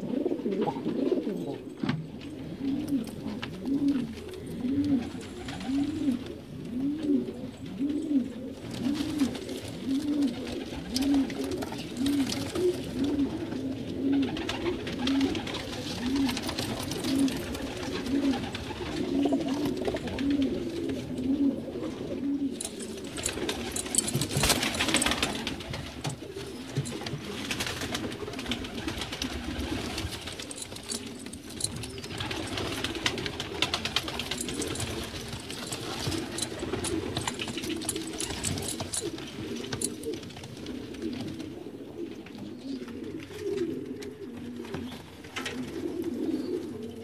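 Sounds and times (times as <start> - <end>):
pigeons cooing: 0.0 - 47.0.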